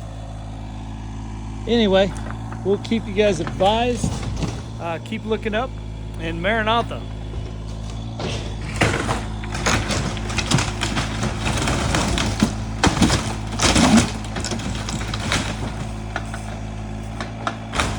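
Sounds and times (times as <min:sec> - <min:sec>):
excavator engine running: 0:00.0 - 0:17.9
timber cracking and splintering: 0:00.0 - 0:17.9.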